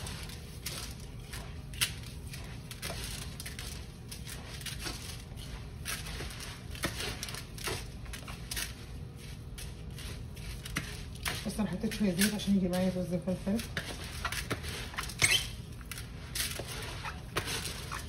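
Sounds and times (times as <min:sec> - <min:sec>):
rice stuffing being mixed: 0:00.0 - 0:18.0.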